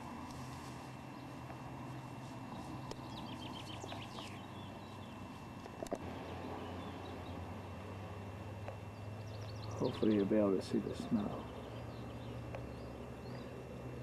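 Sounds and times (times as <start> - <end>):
songbird chirping: 0.0 - 14.0
steady low hum: 0.0 - 14.0.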